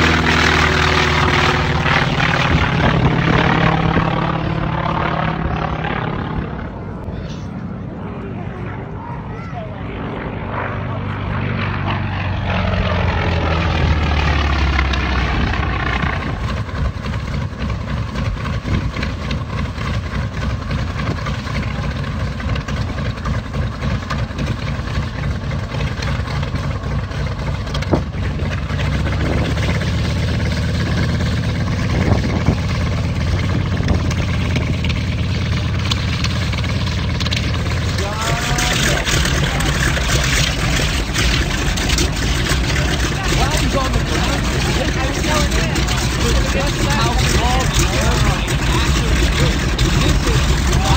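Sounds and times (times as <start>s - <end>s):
propeller aircraft flying past: 0.0s - 50.9s
radial engine running at low power: 0.0s - 50.9s.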